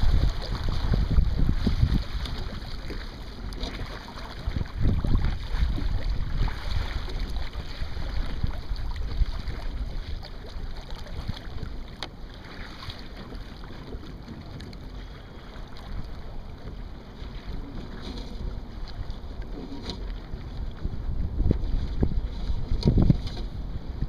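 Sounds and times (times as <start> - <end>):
wind buffeting microphone: 0.0 - 10.4, 13.2 - 24.0
water splashing along hull: 0.0 - 24.0.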